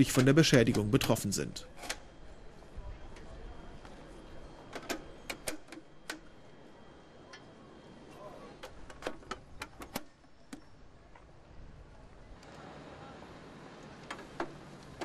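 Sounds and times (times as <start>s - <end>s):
faint street noise: 0.0s - 15.0s.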